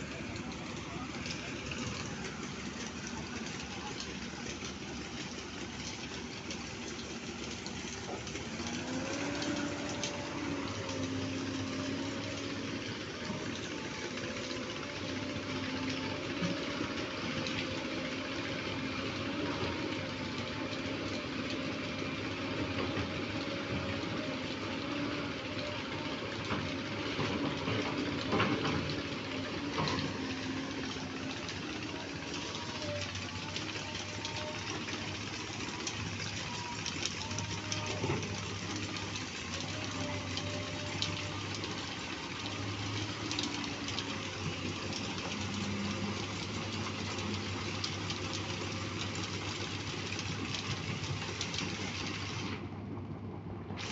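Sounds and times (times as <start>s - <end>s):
excavator engine running: 0.0s - 53.9s.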